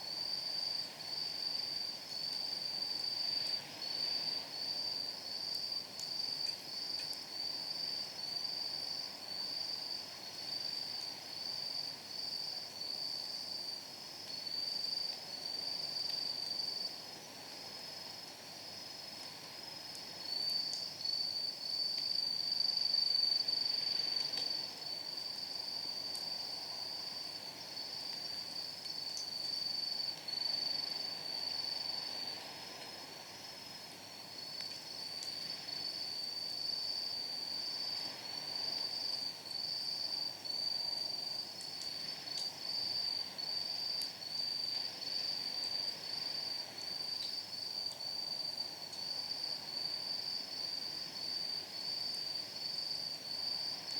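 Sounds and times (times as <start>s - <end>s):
night insects trilling: 0.0s - 53.9s.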